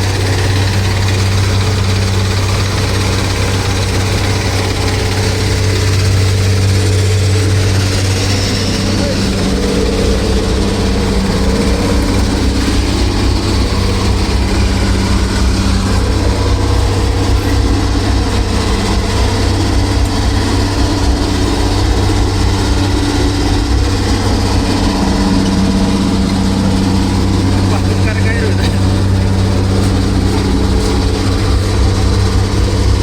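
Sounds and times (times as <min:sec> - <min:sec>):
machine humming loudly: 0:00.0 - 0:33.0.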